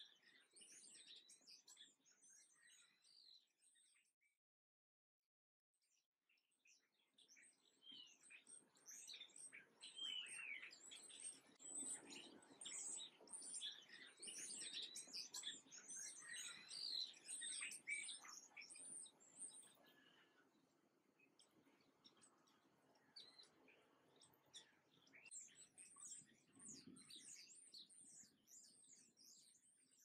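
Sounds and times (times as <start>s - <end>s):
songbirds chirping: 0.0s - 4.4s, 5.8s - 30.0s.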